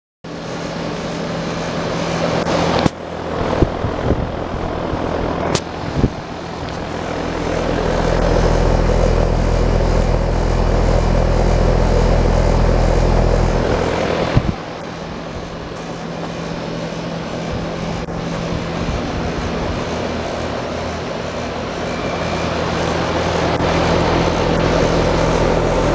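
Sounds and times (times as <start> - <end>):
air conditioner hum: 0.3 - 25.9
fan whooshing: 0.3 - 25.9.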